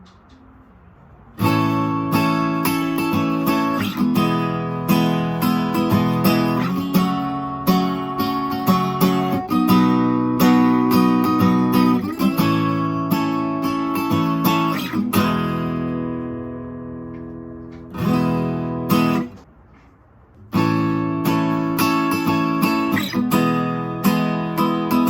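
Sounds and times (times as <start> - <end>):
acoustic guitar strumming chords: 1.3 - 19.8, 20.5 - 25.0.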